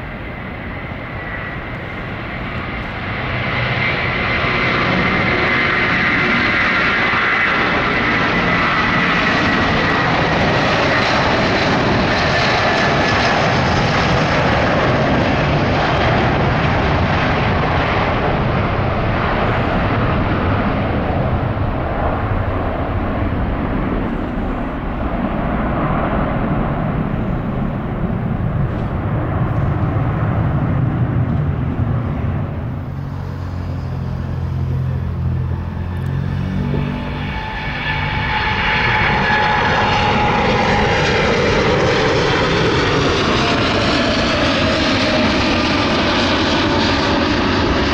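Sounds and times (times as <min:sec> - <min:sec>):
high engine whine: 0:00.0 - 0:47.9
jet engines at takeoff thrust: 0:00.0 - 0:47.9.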